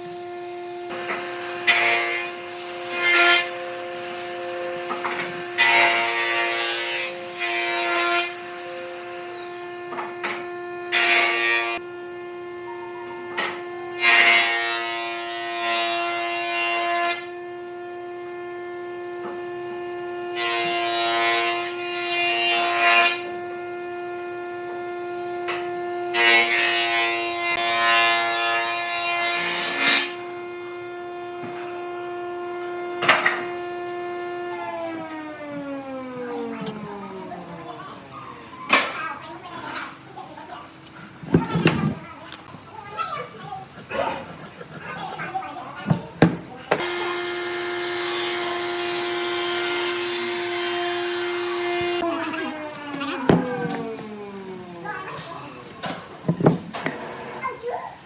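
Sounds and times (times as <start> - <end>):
tool working wood: 0.0 - 57.7
steady hum: 8.0 - 15.6, 17.2 - 22.1, 23.1 - 58.0.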